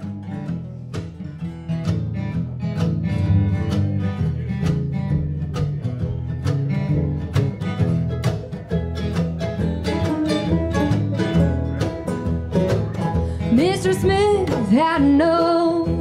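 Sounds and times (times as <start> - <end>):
acoustic guitar picking: 0.0 - 16.0.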